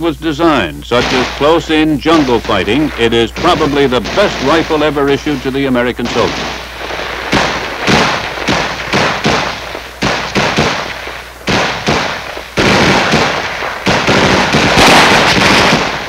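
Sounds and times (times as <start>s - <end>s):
rifle shots: 0.5s - 16.0s
automatic rifle bursts: 0.9s - 16.0s.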